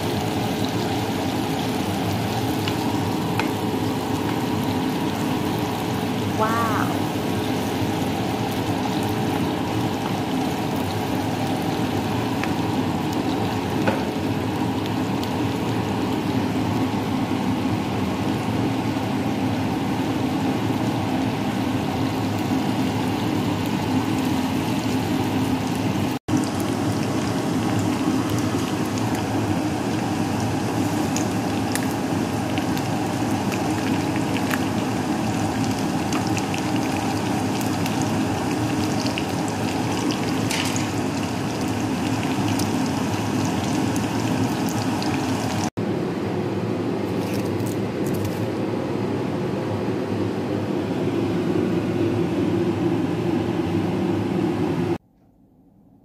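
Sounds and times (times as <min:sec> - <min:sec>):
shrimp sizzling in hot oil: 0:00.0 - 0:45.7.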